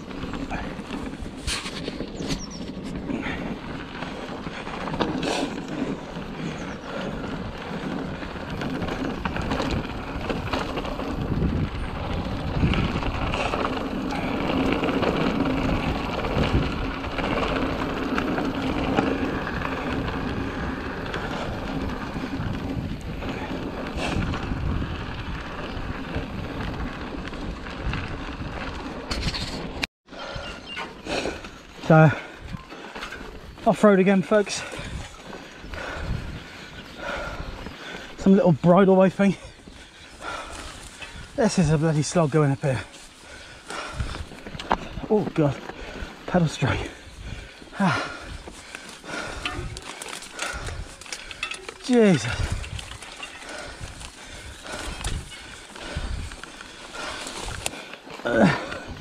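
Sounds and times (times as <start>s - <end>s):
wind on microphone: 0.0s - 31.5s, 34.6s - 38.2s, 43.1s - 59.0s
bike knocking and rattling: 0.0s - 59.0s
bike tyres on dirt track: 0.0s - 59.0s.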